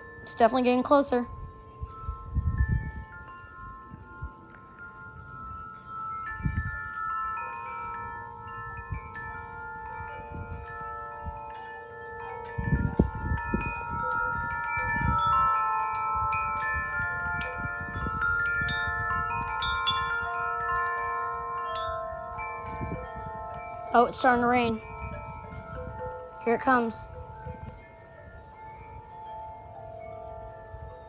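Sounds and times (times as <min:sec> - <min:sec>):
wind buffeting microphone: 0:00.0 - 0:31.0
wind chimes ringing: 0:00.0 - 0:31.0.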